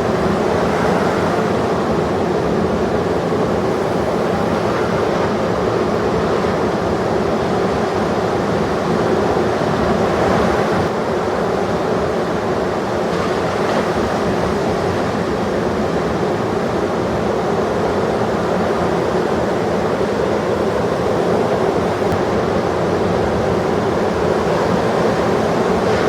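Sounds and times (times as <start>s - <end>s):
ocean surf breaking: 0.0s - 26.0s.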